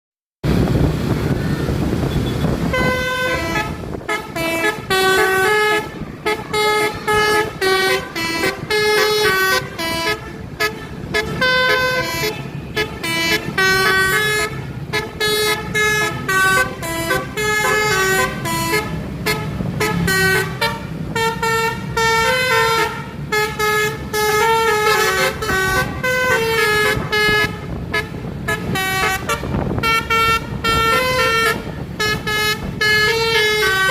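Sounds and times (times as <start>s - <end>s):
vehicle noise: 0.4s - 33.9s
musical air horn tune: 2.2s - 33.9s.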